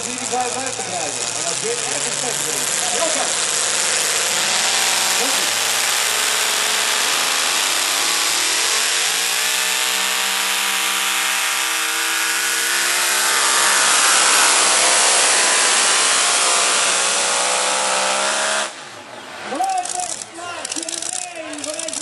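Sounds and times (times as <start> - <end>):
truck engine at full throttle: 0.0 - 20.2.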